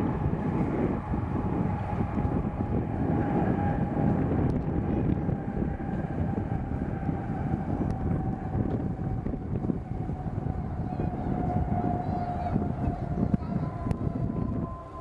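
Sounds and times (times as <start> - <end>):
jet engines whining: 0.0 - 15.0
wind buffeting microphone: 0.0 - 15.0.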